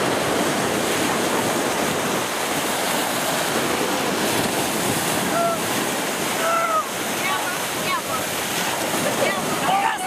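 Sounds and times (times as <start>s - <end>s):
sea surf breaking: 0.0s - 10.0s.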